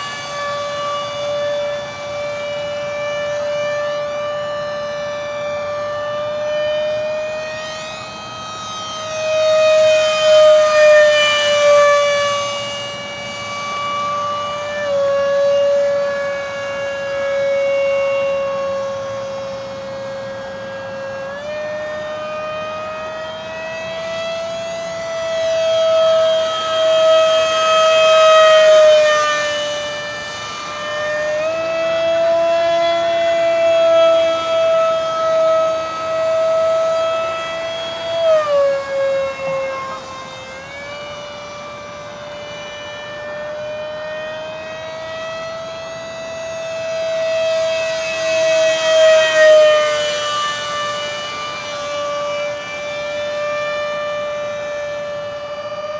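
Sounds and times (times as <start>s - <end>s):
electric ducted fan whine: 0.0s - 55.9s.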